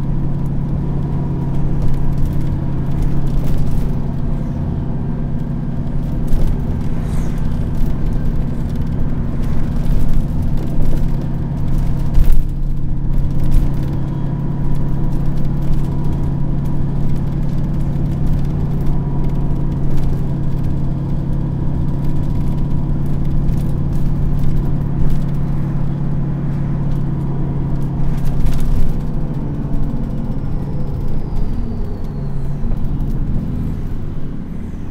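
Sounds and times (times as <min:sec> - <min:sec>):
bus engine droning: 0:00.0 - 0:34.9.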